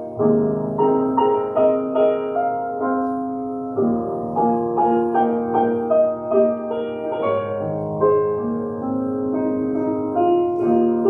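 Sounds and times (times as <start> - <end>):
piano melody over chords: 0.0 - 11.0.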